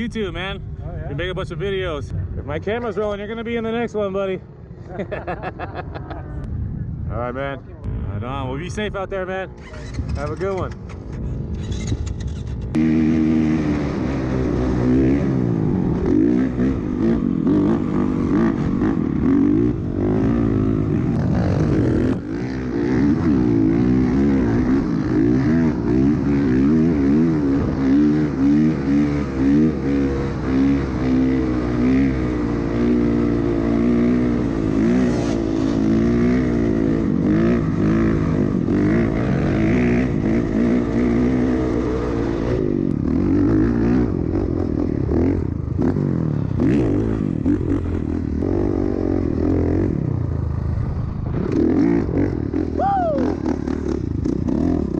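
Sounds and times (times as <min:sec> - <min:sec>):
off-road vehicle engine revving: 0:09.2 - 0:50.6, 0:51.2 - 0:54.9.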